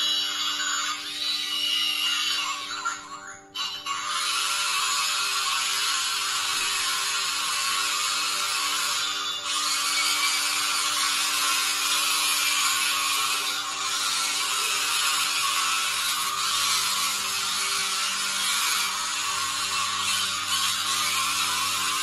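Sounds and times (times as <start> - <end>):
toy motors whirring and grinding: 0.0 - 22.0.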